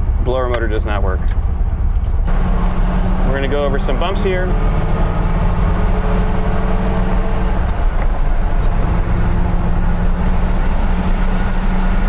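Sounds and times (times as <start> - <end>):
car engine droning: 0.0 - 12.0
road and tyre noise: 0.0 - 12.0.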